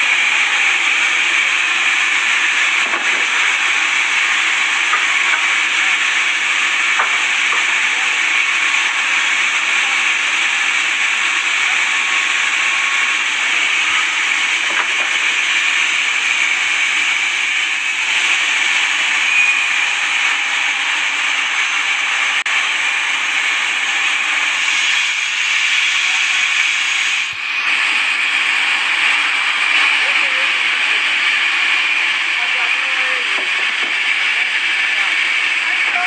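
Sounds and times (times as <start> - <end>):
loud hissing noise: 0.0 - 36.0.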